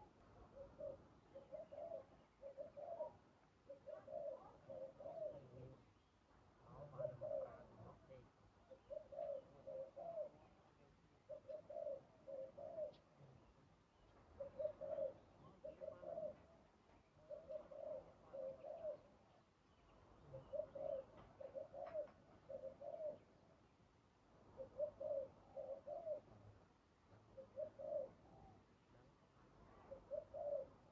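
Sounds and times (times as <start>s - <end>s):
dove cooing: 0.0s - 5.9s, 6.7s - 10.6s, 11.2s - 13.5s, 14.2s - 19.4s, 20.2s - 23.4s, 24.4s - 26.5s, 27.2s - 28.7s, 29.6s - 30.9s.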